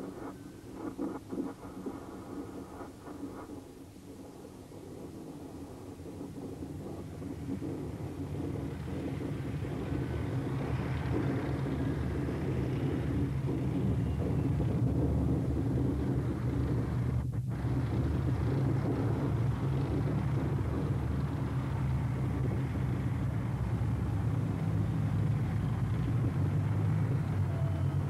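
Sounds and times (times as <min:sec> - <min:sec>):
tracked vehicle engines idling: 0:04.3 - 0:28.0.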